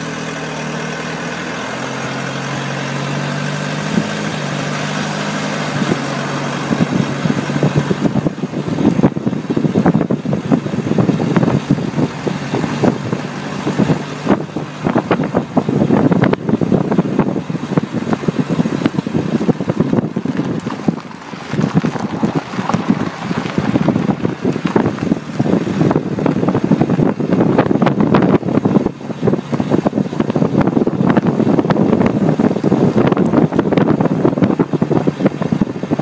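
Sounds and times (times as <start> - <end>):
tyres rolling on rough lane: 0.0 - 36.0
wind buffeting microphone: 0.0 - 36.0.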